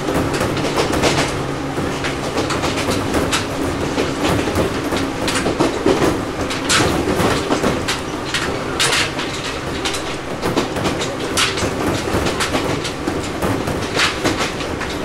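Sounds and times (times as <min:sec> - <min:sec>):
train running gear rumble: 0:00.0 - 0:15.0
wheels clacking: 0:00.0 - 0:15.0.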